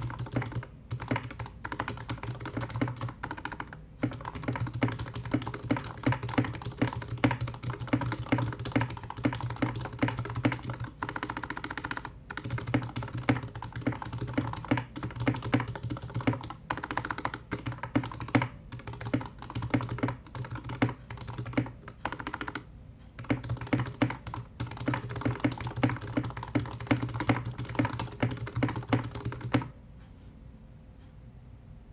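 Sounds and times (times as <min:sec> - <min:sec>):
mechanical keyboard typing: 0:00.0 - 0:29.8.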